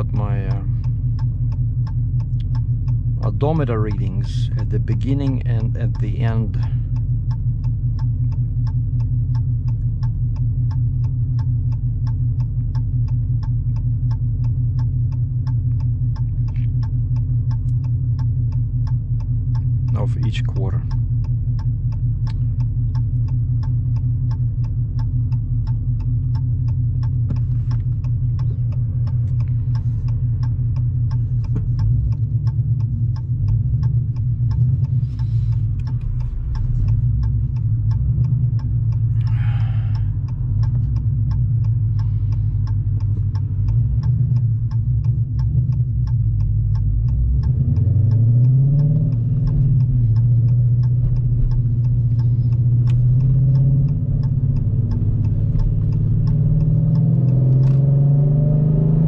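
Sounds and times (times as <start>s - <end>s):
car engine droning: 0.0s - 59.0s
even ticking clicks: 0.0s - 59.0s.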